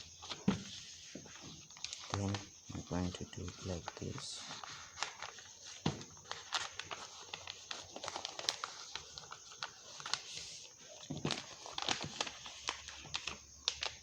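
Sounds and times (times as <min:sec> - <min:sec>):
paper being folded and creased: 0:00.0 - 0:14.0.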